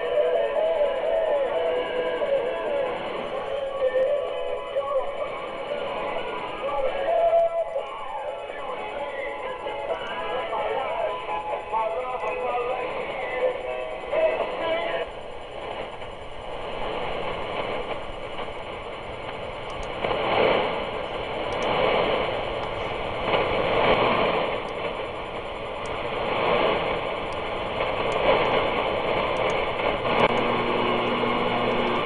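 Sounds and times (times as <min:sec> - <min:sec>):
shortwave radio static: 0:00.0 - 0:32.0
steady low tone: 0:00.0 - 0:32.0.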